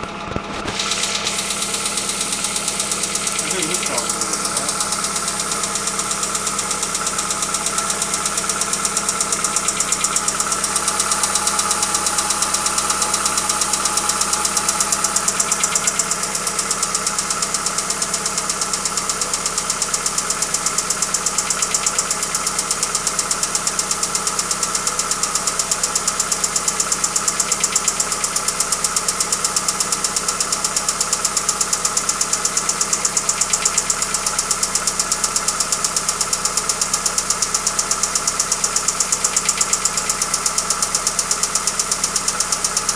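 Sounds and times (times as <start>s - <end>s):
car engine with knocking tick: 0.0s - 42.9s.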